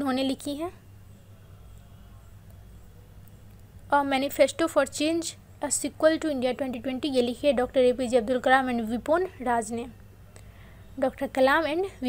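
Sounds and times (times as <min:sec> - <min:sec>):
low steady hum with hiss: 0:00.0 - 0:12.0.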